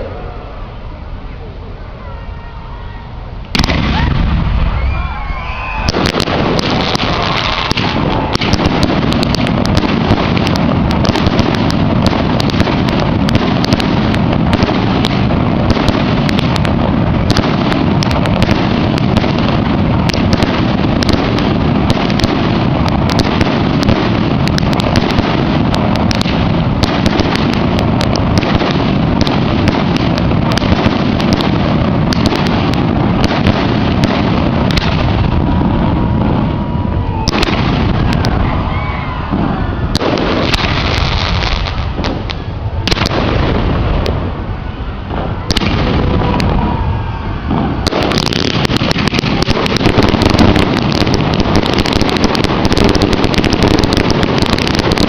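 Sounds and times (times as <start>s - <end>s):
fireworks bursts and crackling: 0.0s - 55.0s.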